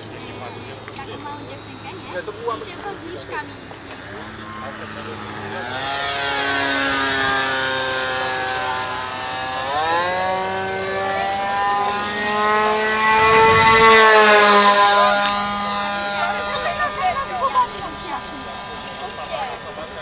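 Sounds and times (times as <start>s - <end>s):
model plane electric motor whine: 0.0s - 20.0s.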